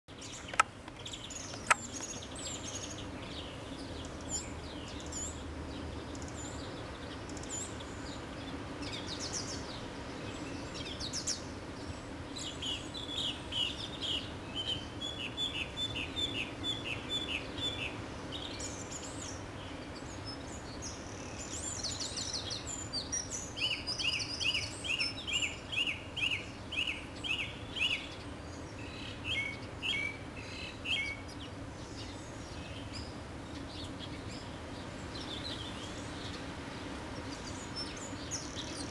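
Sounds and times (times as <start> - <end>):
small birds chirping and singing: 0.1 - 38.9.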